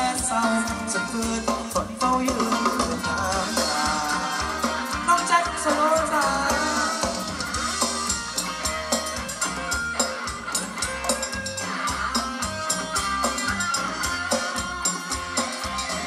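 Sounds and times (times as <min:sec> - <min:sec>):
drum kit beat: 0:00.0 - 0:16.0
live band dance music: 0:00.0 - 0:16.0.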